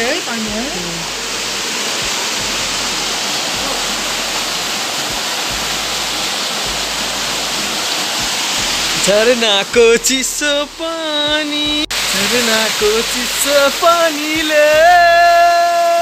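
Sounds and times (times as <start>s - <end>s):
small waterfall rushing: 0.0s - 16.0s.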